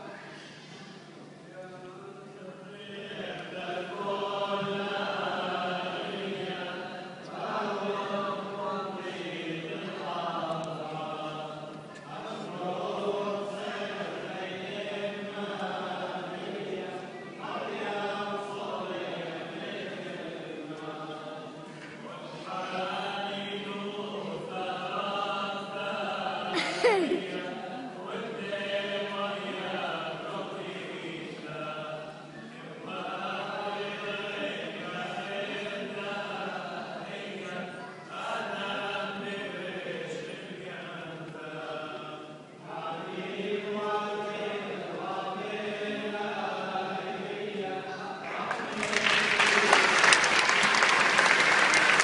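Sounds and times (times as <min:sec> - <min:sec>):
liturgical chant: 0:00.0 - 0:52.0.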